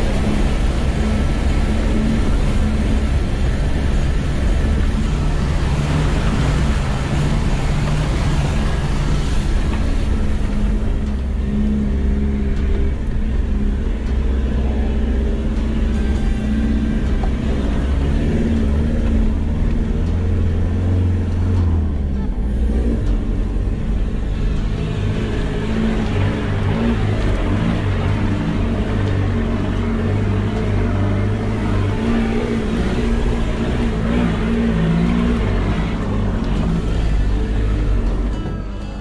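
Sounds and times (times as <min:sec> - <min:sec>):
road and tyre noise: 0:00.0 - 0:39.0
vehicle engine running: 0:00.0 - 0:39.0.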